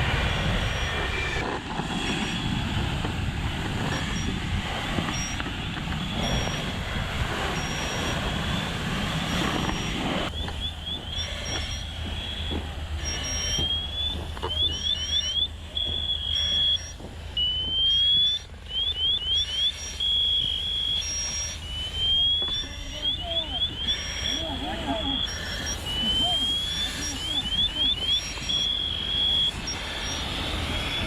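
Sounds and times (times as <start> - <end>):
high-pitched electronic alarm: 0.0 - 31.0
low engine hum: 0.0 - 31.0.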